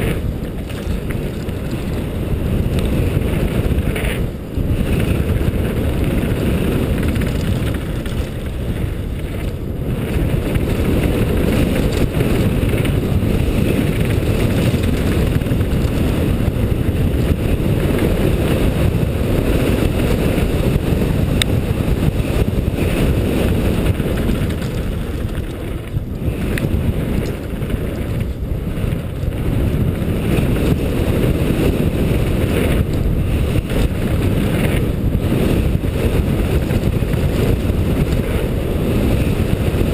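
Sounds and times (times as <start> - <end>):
bike tyres rumbling on gravel: 0.0 - 39.9
wind buffeting microphone: 0.0 - 39.9.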